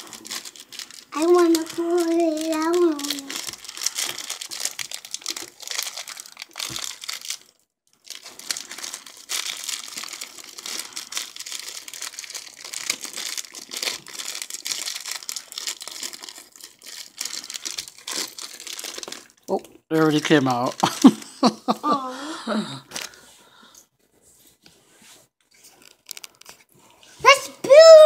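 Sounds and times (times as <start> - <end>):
plastic bag crinkling: 0.0 - 21.5, 25.5 - 26.7.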